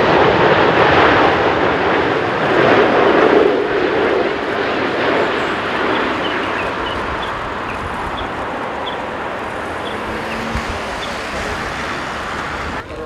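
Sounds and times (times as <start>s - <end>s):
distant jet engine rumble: 0.0s - 13.0s.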